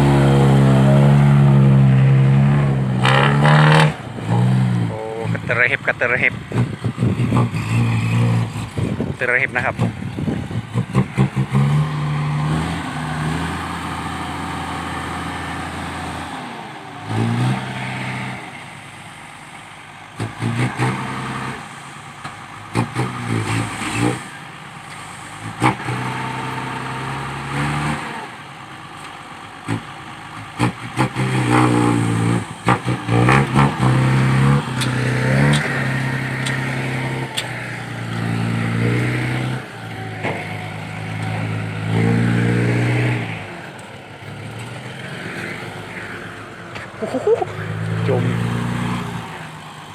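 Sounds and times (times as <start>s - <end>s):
diesel truck engine revving: 0.0s - 49.9s.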